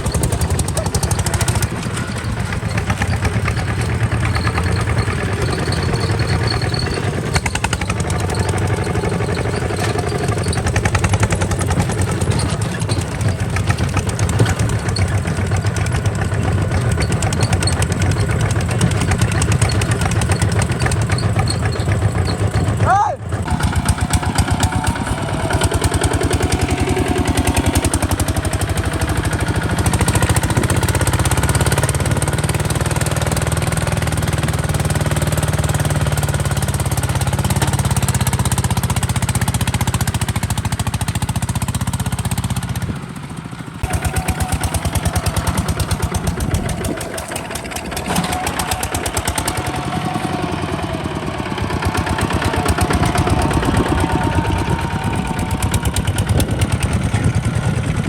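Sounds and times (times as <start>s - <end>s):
diesel engine knocking: 0.0s - 58.0s.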